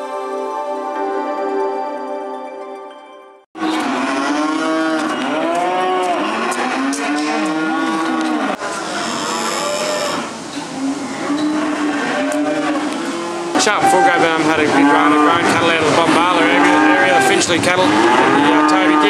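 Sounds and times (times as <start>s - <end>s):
cattle mooing and bellowing: 3.6s - 19.0s.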